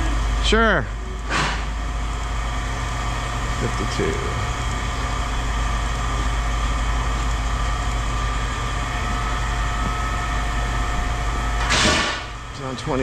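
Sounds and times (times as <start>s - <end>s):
machine drone: 0.0s - 13.0s.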